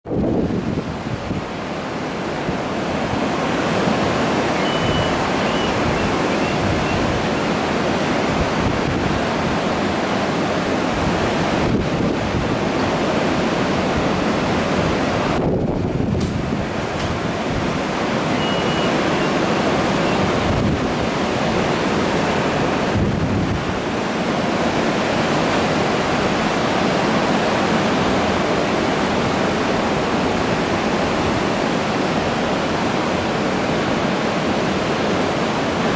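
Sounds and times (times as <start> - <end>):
wind rumbling on microphone: 0.0 - 35.9
ocean waves breaking: 0.1 - 35.9.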